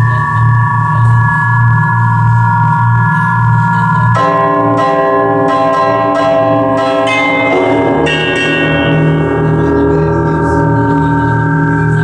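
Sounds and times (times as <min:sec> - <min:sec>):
bell-like electronic drone tones: 0:00.0 - 0:12.0
low pulsing hum: 0:00.0 - 0:12.0.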